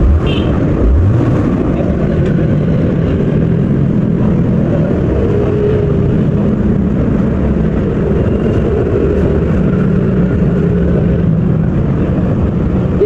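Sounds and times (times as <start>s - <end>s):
vehicle engine running: 0.0s - 12.5s.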